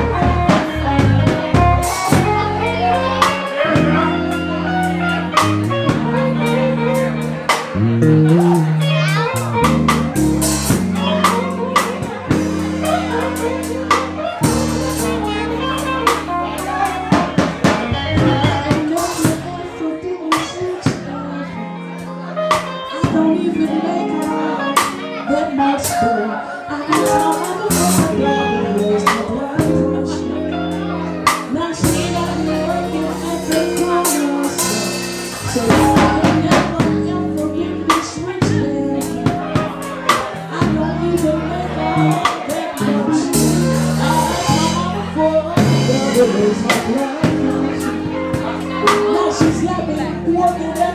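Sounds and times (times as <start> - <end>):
drum kit beat: 0.0 - 21.1, 22.0 - 26.1, 26.9 - 30.2, 30.8 - 50.9
bass line: 0.0 - 50.9
held chords: 0.0 - 50.9
live band playing: 0.0 - 50.9.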